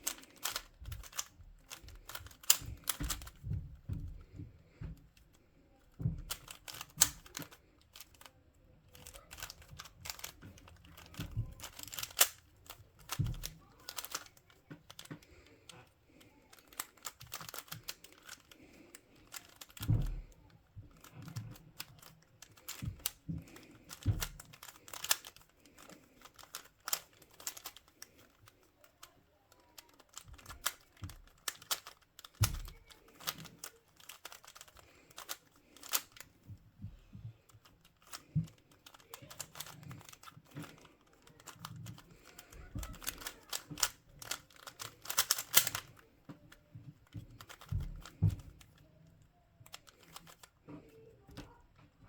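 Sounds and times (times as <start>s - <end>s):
puzzle cube clicking: 0.0s - 3.4s, 6.1s - 48.8s, 49.6s - 50.6s.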